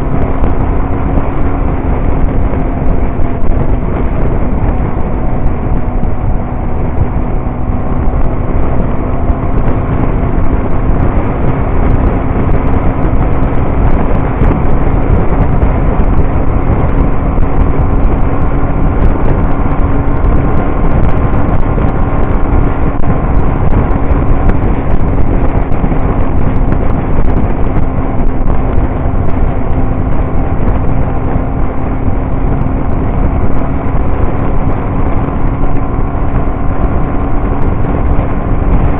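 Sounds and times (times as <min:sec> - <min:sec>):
motorcycle engine cruising: 0:00.0 - 0:38.9
road and wind noise: 0:00.0 - 0:38.9.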